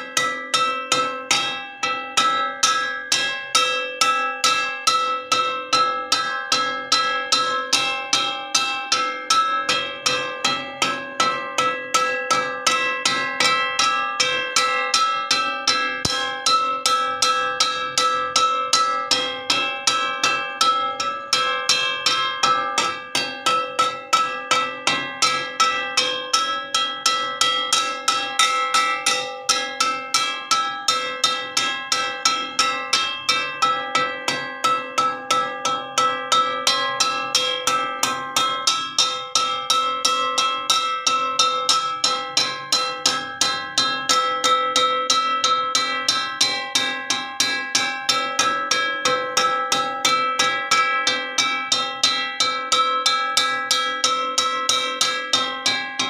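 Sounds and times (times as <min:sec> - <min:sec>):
metal wok struck ringing: 0:00.0 - 0:55.8.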